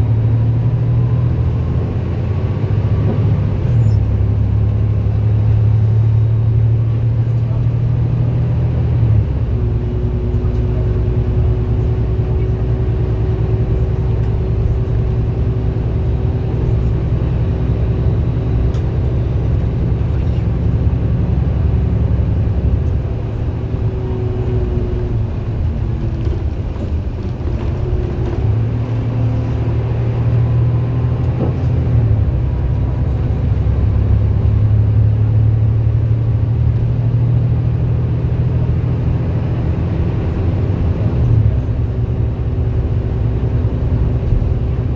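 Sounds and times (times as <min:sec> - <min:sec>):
bus engine running: 0:00.0 - 0:44.9.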